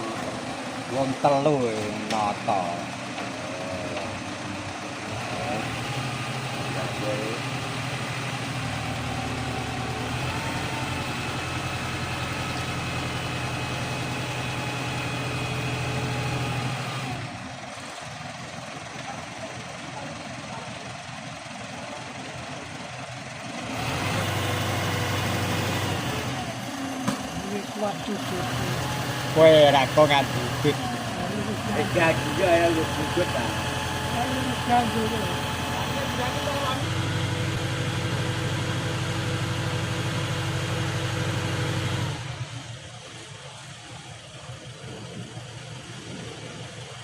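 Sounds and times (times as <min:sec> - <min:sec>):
engine running: 0:00.0 - 0:47.0.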